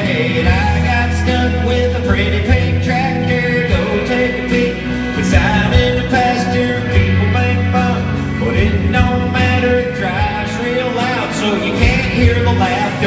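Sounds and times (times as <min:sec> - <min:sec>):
electric guitar strumming: 0:00.0 - 0:13.0
man singing: 0:00.0 - 0:13.0.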